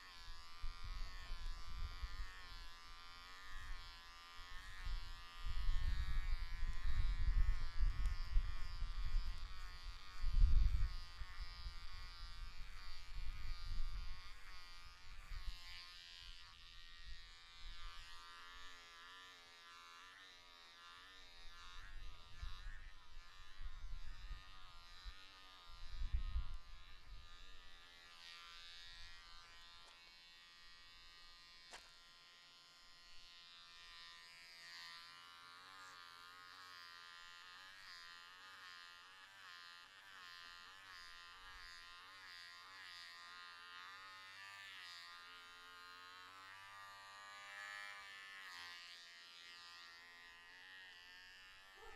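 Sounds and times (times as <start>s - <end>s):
electric hair clippers buzzing: 0.0s - 51.9s.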